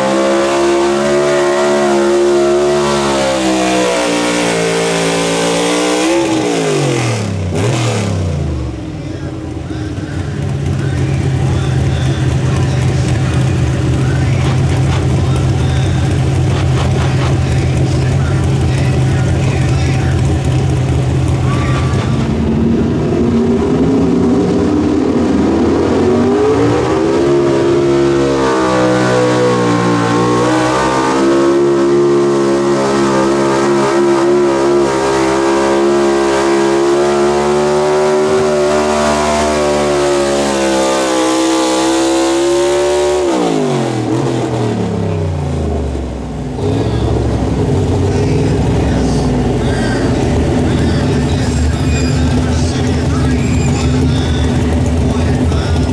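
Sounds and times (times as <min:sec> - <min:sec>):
pulling truck engine revving: 0:00.0 - 0:55.9.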